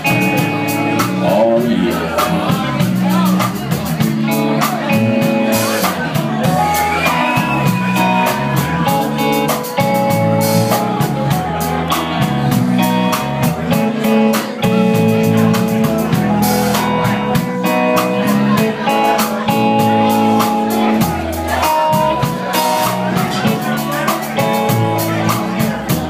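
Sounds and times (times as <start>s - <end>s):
blues guitar lines: 0.0s - 26.0s
drum-kit beat: 0.0s - 26.0s.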